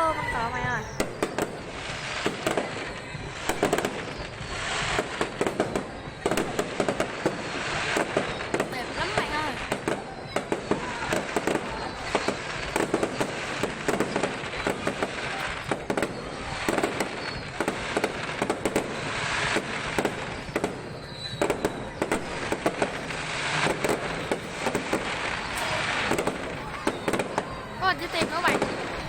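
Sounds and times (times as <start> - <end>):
fireworks bangs and crackling: 0.0 - 29.0
rumble of fireworks bursts: 0.0 - 29.0.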